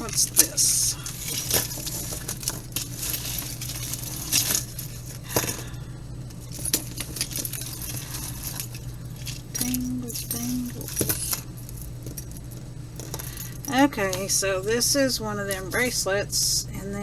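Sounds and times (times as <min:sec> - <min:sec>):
metal jewelry clinking: 0:00.0 - 0:16.2
steady low hum: 0:00.0 - 0:17.0.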